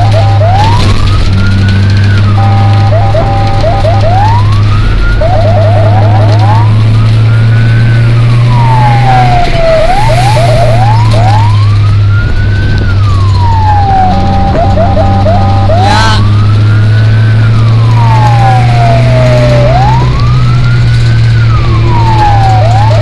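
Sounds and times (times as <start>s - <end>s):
fire truck siren wailing: 0.0s - 23.0s.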